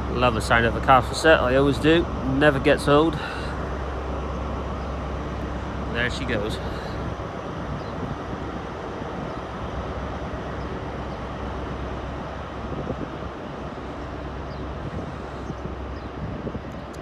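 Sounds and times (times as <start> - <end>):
diesel train engines droning: 0.0 - 17.0.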